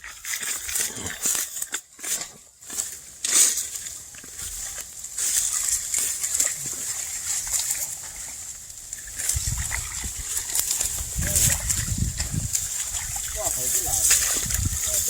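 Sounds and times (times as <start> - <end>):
footsteps splashing through water: 0.0 - 15.0.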